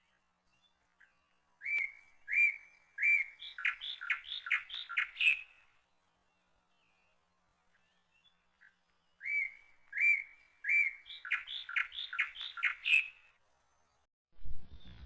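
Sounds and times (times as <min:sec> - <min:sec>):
songbird singing: 0:00.0 - 0:14.1.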